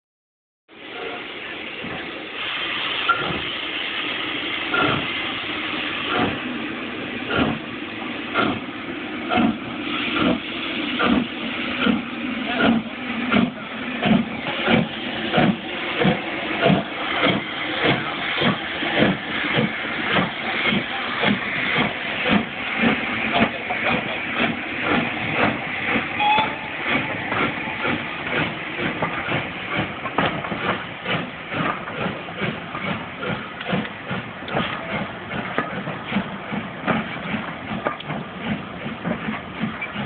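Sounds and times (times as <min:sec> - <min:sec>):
steam hissing: 0:00.8 - 0:40.0
steam locomotive exhaust chuffs: 0:00.8 - 0:40.0.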